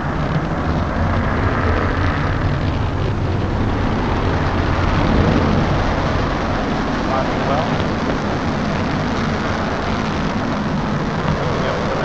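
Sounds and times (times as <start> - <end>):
rocket engines deep rumble: 0.0 - 12.0.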